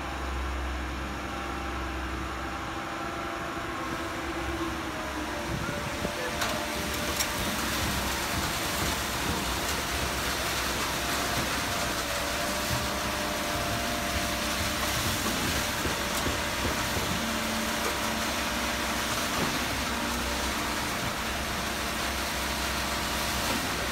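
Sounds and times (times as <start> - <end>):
concrete pump diesel engine: 0.0 - 23.9.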